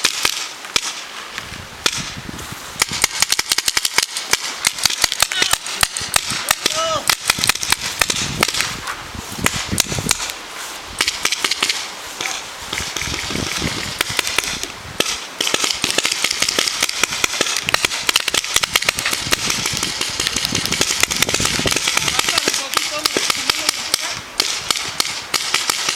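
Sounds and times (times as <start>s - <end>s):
paintball markers firing: 0.0s - 1.0s, 2.8s - 8.8s, 11.0s - 25.9s.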